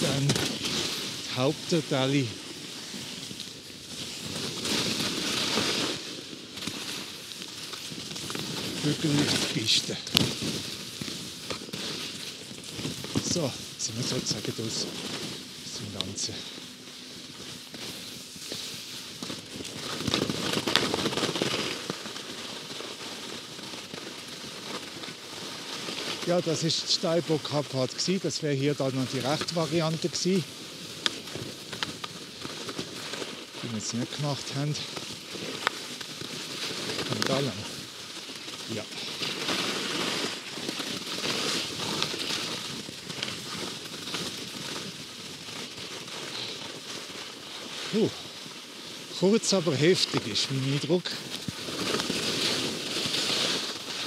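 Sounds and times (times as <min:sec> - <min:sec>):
skis scraping over hard snow: 0:00.0 - 0:54.0.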